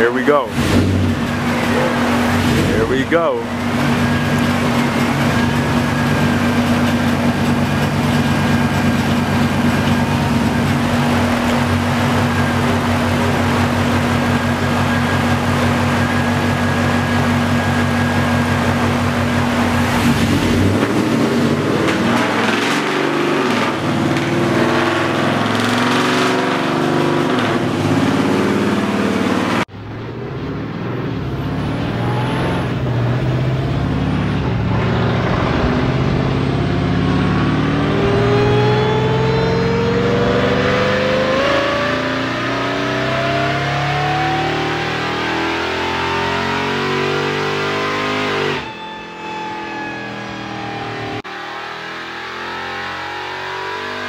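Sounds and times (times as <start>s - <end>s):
supercharged engine running on dyno: 0.0s - 54.0s.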